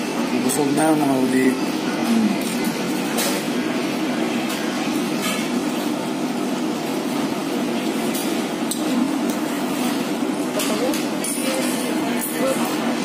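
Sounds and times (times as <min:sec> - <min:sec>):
restaurant background hum: 0:00.0 - 0:13.0.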